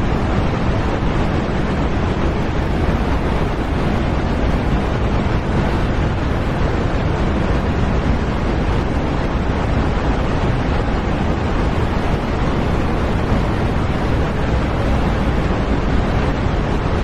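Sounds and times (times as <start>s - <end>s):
loud rushing noise: 0.0s - 17.0s.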